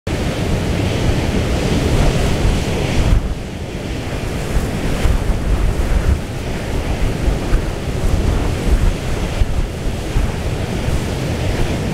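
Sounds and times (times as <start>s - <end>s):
rough sea: 0.1s - 11.9s
rushing wind: 0.1s - 11.9s
wind buffeting microphone: 0.1s - 11.9s.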